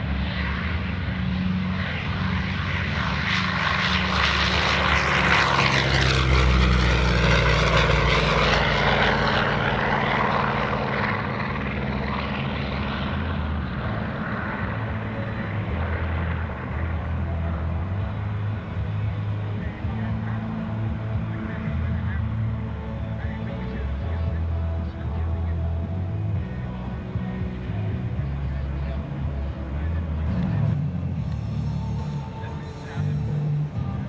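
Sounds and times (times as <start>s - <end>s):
propeller plane engine at full power: 0.0s - 34.0s.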